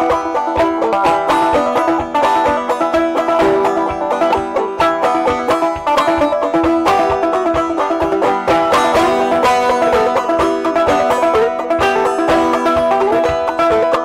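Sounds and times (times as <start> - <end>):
banjo plucked old-time tune: 0.0 - 14.0.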